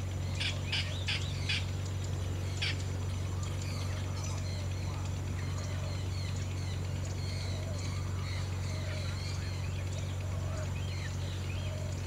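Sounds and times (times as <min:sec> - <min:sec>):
steady low hum: 0:00.0 - 0:12.0
birds chirping: 0:00.2 - 0:12.0.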